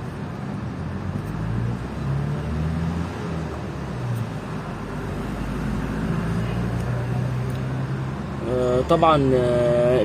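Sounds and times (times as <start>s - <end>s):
road noise: 0.0s - 10.0s
vehicle engine hum: 0.0s - 10.0s.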